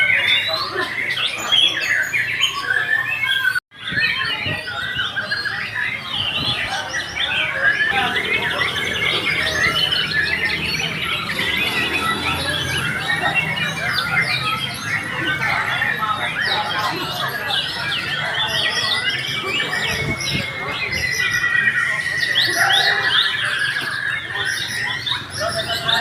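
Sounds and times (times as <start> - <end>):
songbirds chirping and singing: 0.0 - 26.0.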